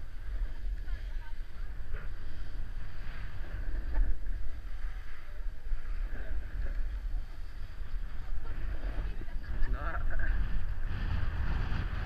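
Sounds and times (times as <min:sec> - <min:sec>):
snowboard sliding over snow: 0:00.0 - 0:12.0
wind rumbling on microphone: 0:00.0 - 0:12.0.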